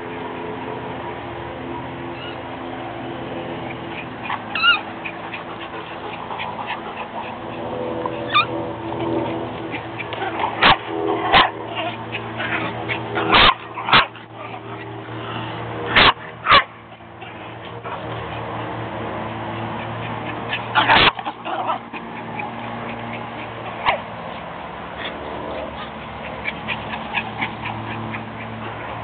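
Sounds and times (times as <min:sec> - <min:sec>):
steady low hum: 0:00.0 - 0:29.0
small dogs yipping: 0:02.0 - 0:02.5, 0:03.6 - 0:18.5, 0:19.6 - 0:24.3, 0:25.0 - 0:29.0.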